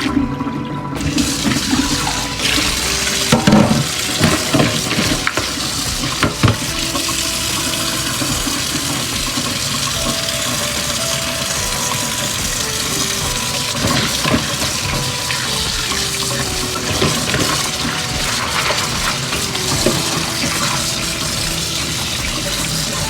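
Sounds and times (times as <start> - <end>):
water splashes and knocks: 0.0 - 23.0
tap running into sink: 1.0 - 23.0.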